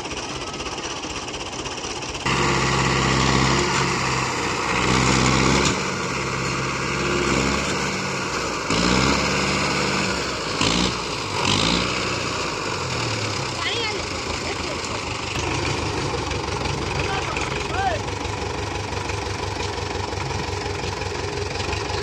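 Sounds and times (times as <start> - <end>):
tractor engine revving: 0.0 - 22.0.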